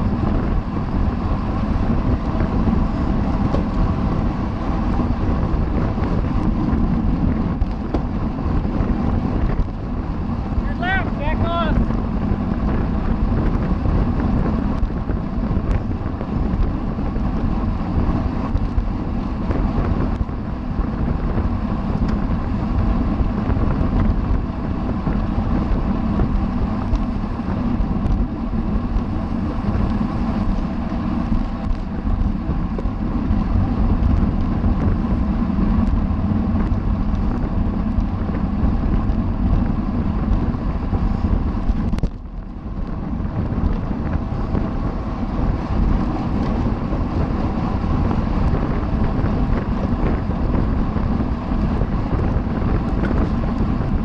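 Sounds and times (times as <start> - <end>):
low rumble: 0.0 - 54.0
wind rushing over microphone: 0.0 - 54.0.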